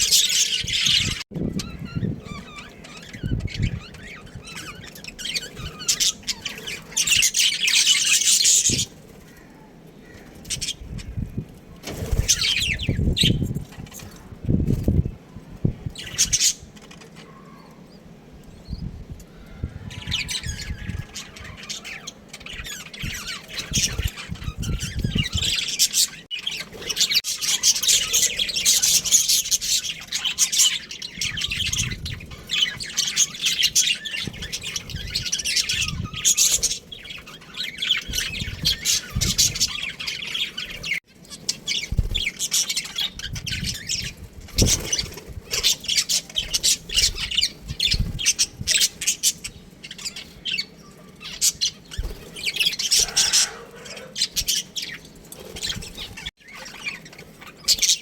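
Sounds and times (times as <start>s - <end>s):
budgies chattering and squawking: 0.0s - 58.0s.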